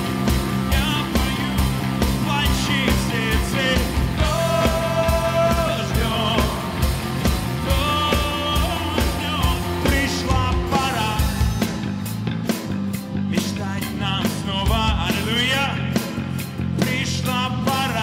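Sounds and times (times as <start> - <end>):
bass guitar: 0.0 - 18.0
drums: 0.0 - 18.0
electric guitar: 0.0 - 18.0
man singing into a microphone: 0.7 - 6.8, 7.6 - 11.4, 13.3 - 18.0.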